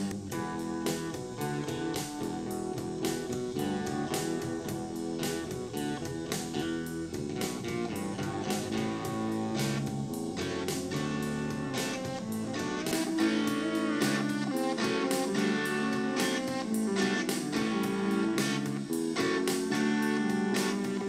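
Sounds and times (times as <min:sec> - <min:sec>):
guitar song with drum beat: 0:00.0 - 0:21.0.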